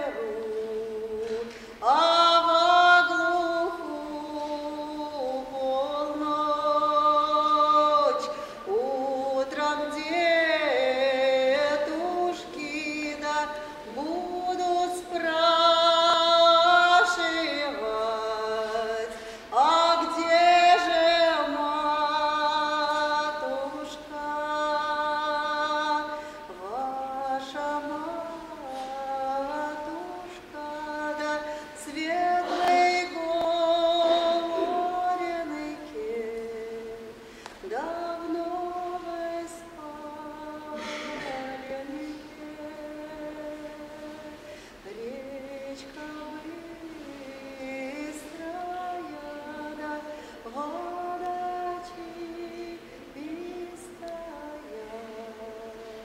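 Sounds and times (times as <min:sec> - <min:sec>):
woman singing unaccompanied: 0:00.0 - 0:56.0.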